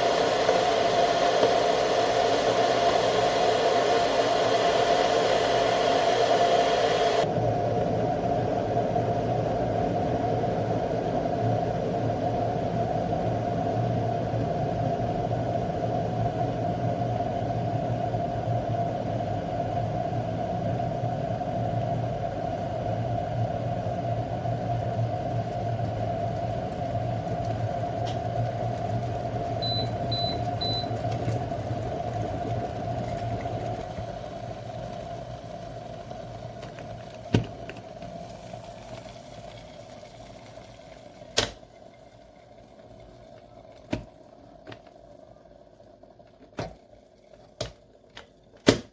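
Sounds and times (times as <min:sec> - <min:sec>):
electric kettle heating water: 0:00.0 - 0:48.9.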